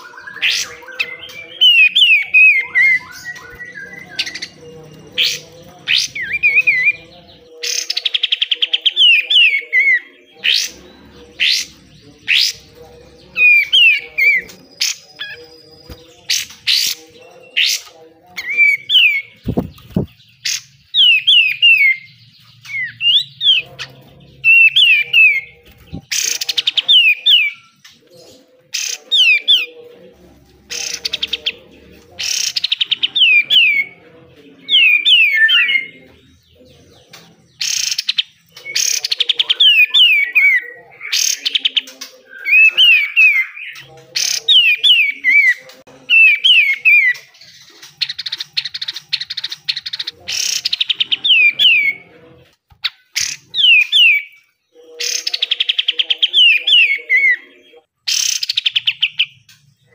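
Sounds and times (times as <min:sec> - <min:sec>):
bulbul singing: 0:00.0 - 0:59.9.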